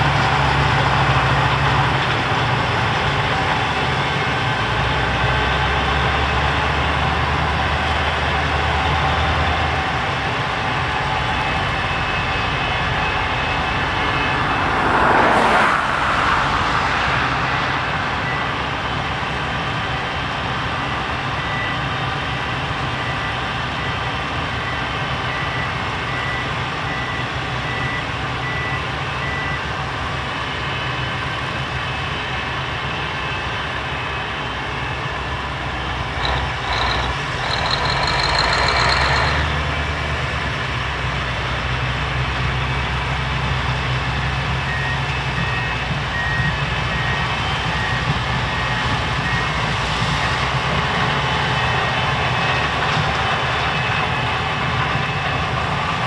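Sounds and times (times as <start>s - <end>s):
heavy diesel engine running: 0.0s - 56.0s
reversing alarm beeping: 3.4s - 41.2s, 42.5s - 56.0s.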